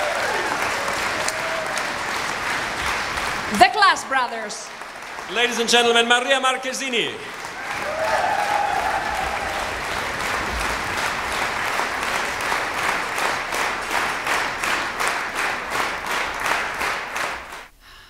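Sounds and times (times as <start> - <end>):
audience applauding: 0.0 - 17.7.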